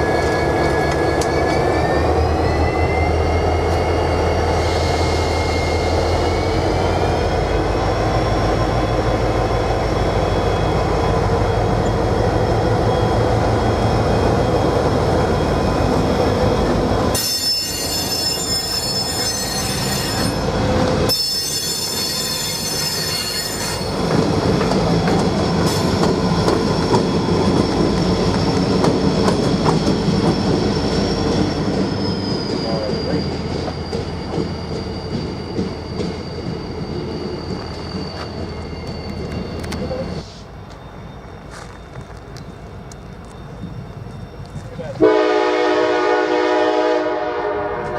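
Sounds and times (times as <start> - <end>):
train wheels squealing on rails: 0.0 - 47.9.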